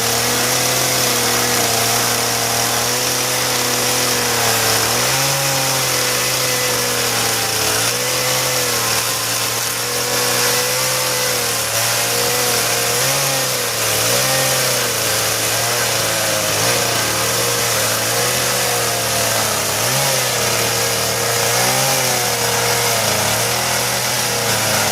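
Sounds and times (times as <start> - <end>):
chainsaw cutting: 0.0 - 24.9.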